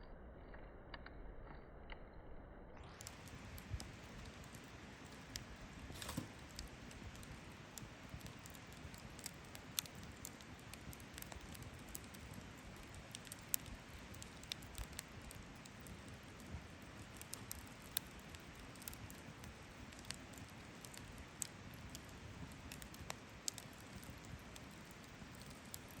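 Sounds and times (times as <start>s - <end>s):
low steady hiss: 2.7s - 26.0s
campfire crackling and popping: 2.8s - 26.0s.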